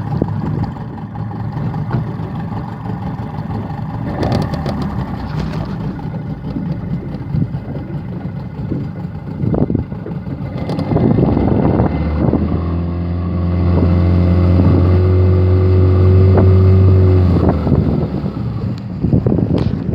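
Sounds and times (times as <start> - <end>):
outboard motor running: 0.0 - 19.9
water noise: 0.0 - 19.9
wind: 0.0 - 19.9.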